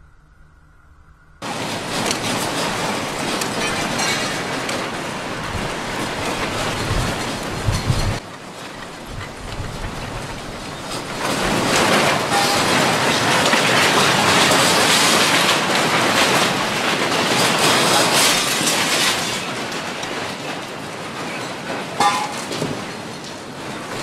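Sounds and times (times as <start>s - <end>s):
earthquake rumbling and rattling: 1.4s - 24.0s.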